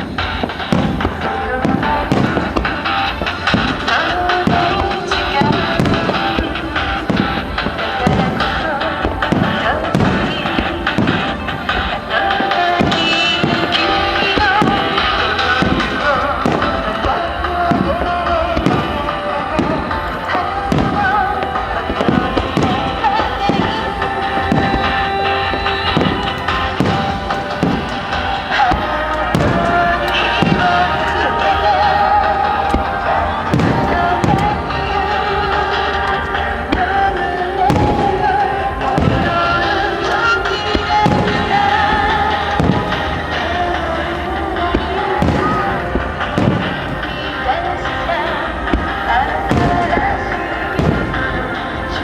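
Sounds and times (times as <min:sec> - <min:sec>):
fireworks bursting: 0:00.0 - 0:52.0
music playing: 0:00.0 - 0:52.0.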